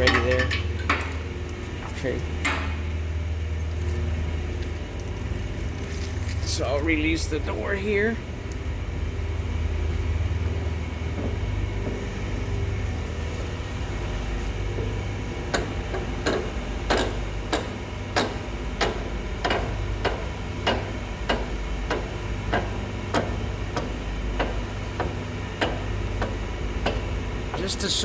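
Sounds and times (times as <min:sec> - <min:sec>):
baler motor humming: 0:00.0 - 0:28.0.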